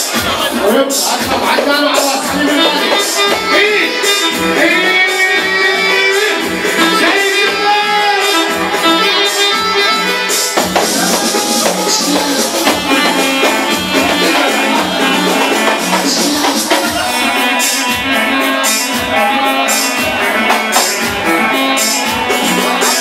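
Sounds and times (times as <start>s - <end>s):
party band playing instrumental: 0.0s - 23.0s.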